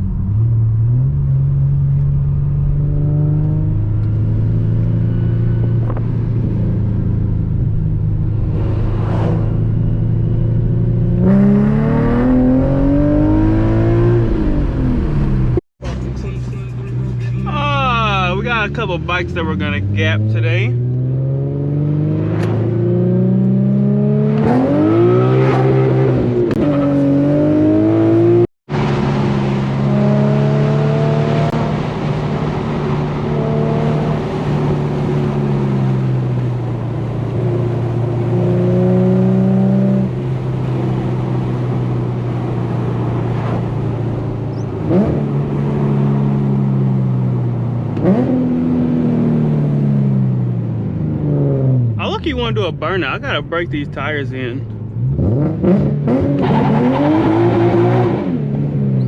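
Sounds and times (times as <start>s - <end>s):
car engine revving through gears: 0.2s - 15.6s, 19.0s - 59.0s.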